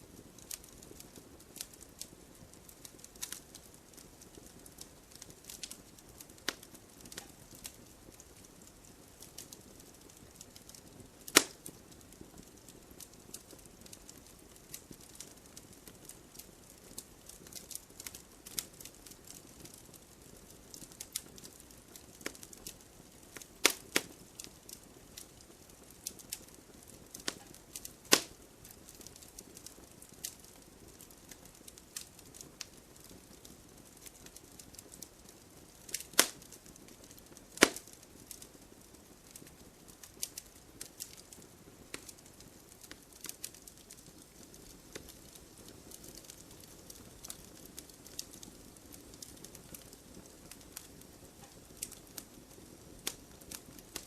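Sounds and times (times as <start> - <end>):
faint steady hiss: 0.0 - 54.0
firewood crackling and popping: 0.0 - 54.0.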